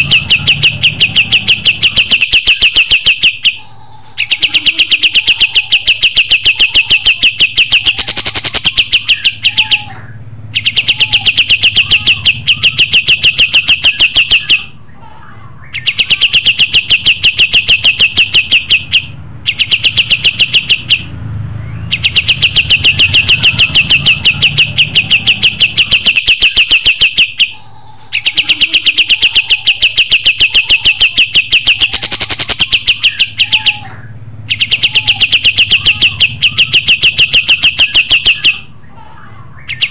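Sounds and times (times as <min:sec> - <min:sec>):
songbird rattling trill: 0:00.0 - 0:09.9, 0:10.5 - 0:14.7, 0:15.7 - 0:38.7.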